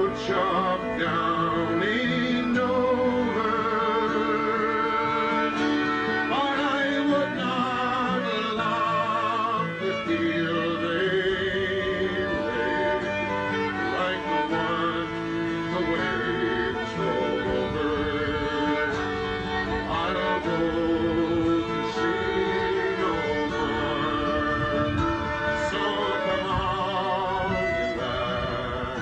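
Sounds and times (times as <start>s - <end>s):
fiddle playing a tune: 0.0s - 29.0s
folk music accompaniment: 0.0s - 29.0s.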